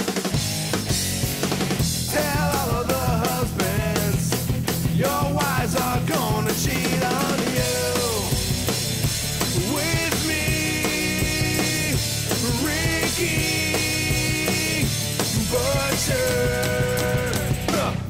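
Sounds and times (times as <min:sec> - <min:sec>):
drum kit beat: 0:00.0 - 0:18.0
rock music: 0:00.0 - 0:18.0.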